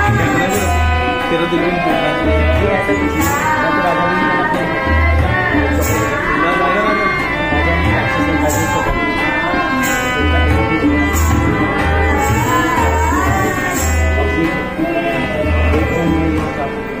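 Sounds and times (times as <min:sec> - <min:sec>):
held instrumental notes: 0:00.0 - 0:17.0
person singing: 0:00.0 - 0:17.0.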